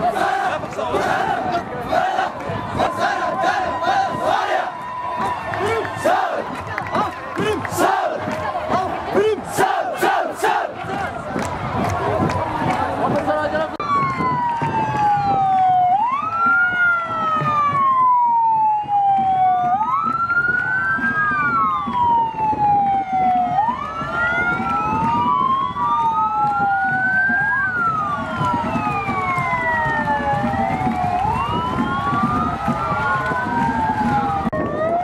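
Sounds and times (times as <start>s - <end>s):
police sirens wailing: 0.0s - 35.0s.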